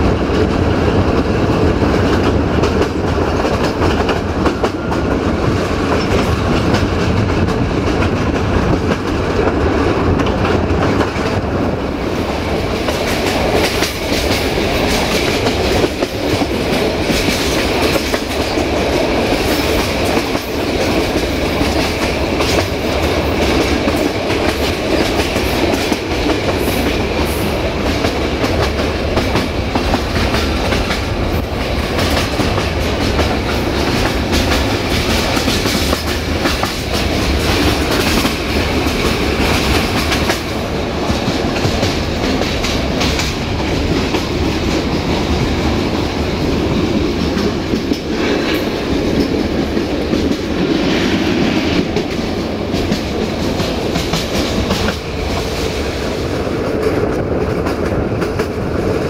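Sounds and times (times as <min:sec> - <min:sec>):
train carriage rumble: 0:00.0 - 0:59.0.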